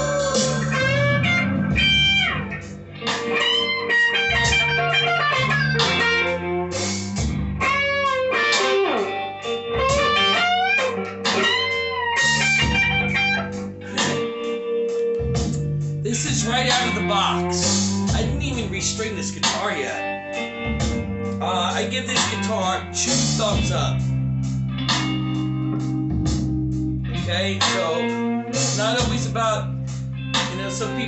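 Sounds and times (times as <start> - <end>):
electric guitar lead with bends: 0.0 - 31.0.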